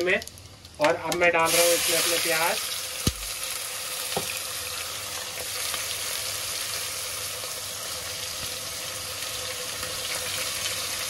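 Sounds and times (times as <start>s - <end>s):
onions sizzling in hot oil: 1.4s - 11.0s.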